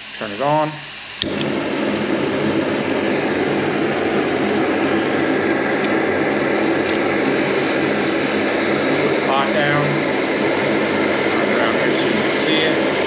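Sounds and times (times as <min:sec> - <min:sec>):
gas stove burner rushing: 0:00.0 - 0:13.0.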